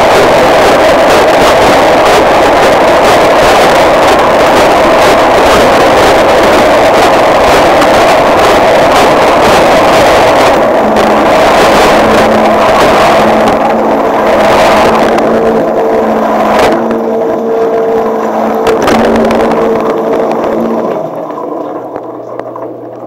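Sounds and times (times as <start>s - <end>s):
pump motor hum: 0.0s - 23.0s.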